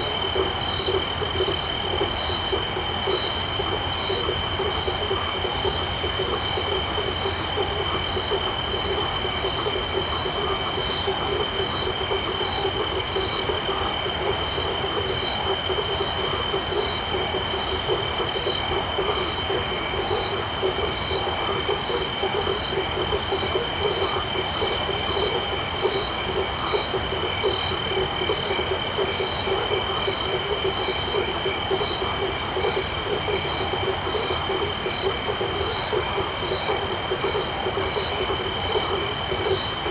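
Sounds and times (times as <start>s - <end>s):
crickets trilling: 0.0s - 39.9s
frog chorus: 0.0s - 39.9s
pulsed insect call: 0.0s - 39.9s.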